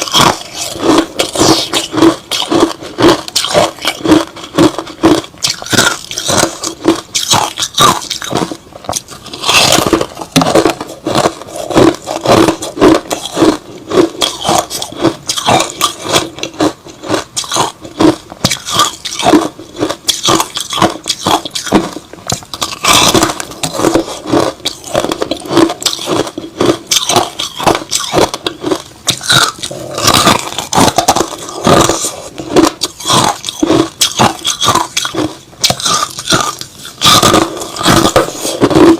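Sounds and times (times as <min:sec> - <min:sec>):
chewing crushed ice: 0:00.0 - 0:38.9.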